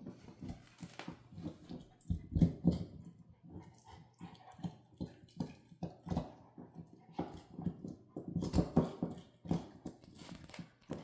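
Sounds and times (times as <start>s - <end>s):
puppy gnawing and crunching: 0.0s - 11.0s.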